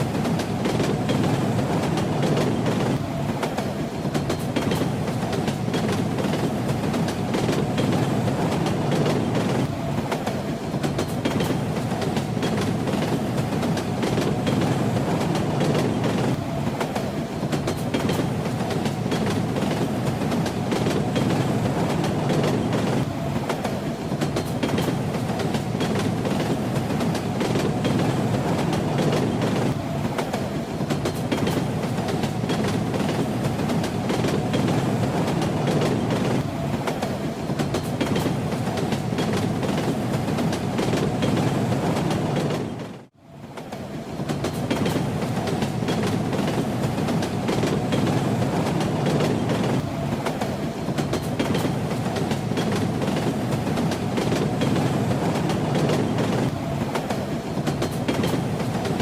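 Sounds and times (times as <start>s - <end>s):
train rumbling: 0.0s - 59.0s
train wheels clickety-clack: 0.0s - 59.0s.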